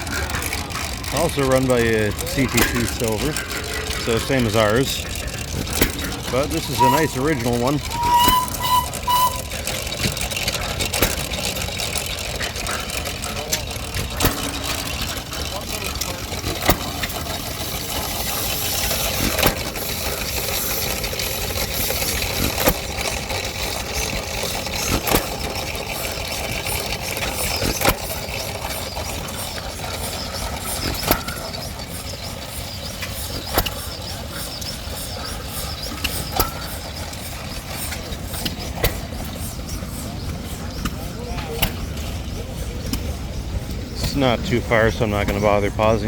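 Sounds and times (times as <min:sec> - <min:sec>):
steady hum of engines: 0:00.0 - 0:46.0.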